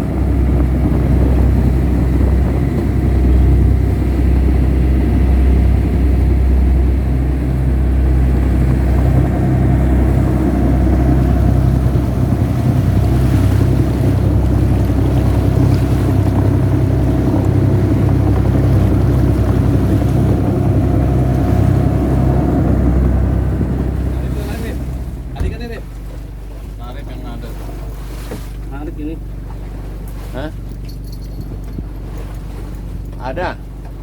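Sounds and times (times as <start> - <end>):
boat engine drone: 0.0 - 34.0.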